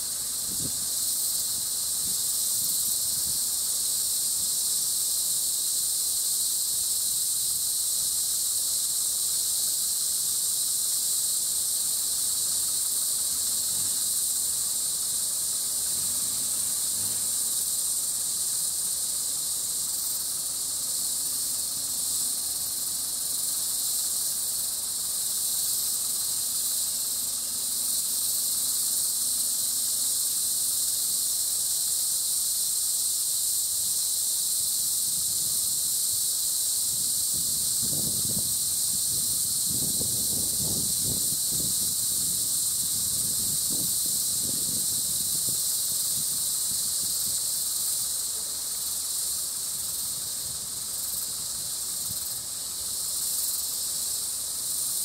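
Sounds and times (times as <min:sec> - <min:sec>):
shrill insect chorus: 0:00.0 - 0:55.0.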